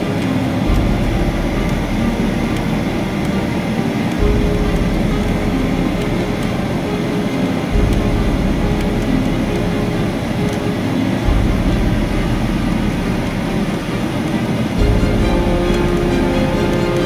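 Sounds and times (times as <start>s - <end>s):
airplane cabin jet engine rush: 0.0s - 17.0s.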